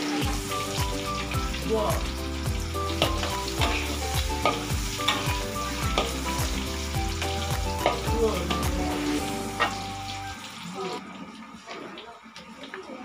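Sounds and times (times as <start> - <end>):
fish sizzling in hot oil: 0.0 - 11.6.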